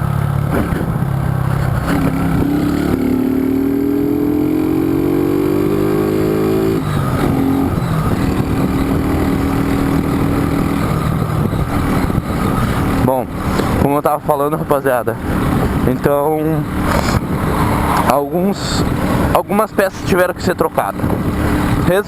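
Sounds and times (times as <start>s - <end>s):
motorcycle engine and exhaust: 0.0s - 22.0s.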